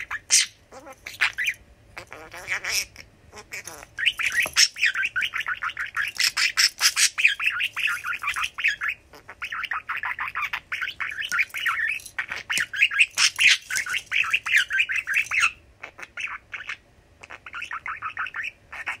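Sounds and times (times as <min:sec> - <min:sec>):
budgerigar chattering and warbling: 0:00.0 - 0:19.0.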